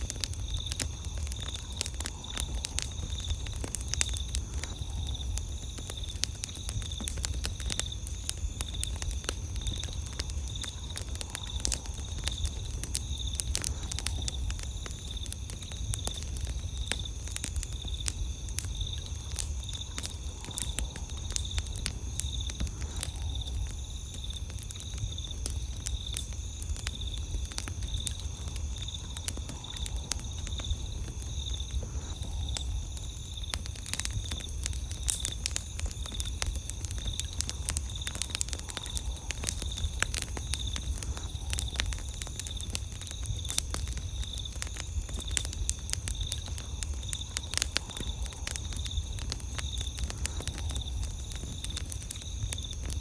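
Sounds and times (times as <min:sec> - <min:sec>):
campfire crackling and popping: 0:00.0 - 0:53.0
night insects trilling: 0:00.0 - 0:53.0.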